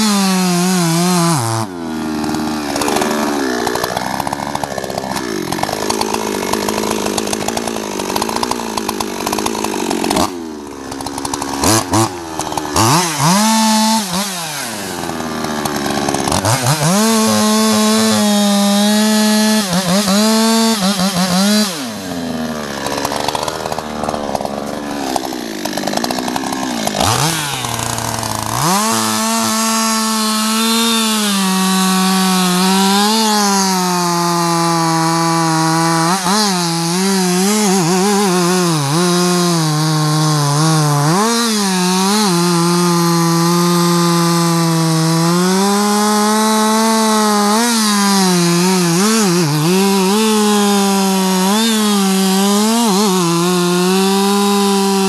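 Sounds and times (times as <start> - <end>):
chainsaw cutting tree trunk: 0.0 - 55.0.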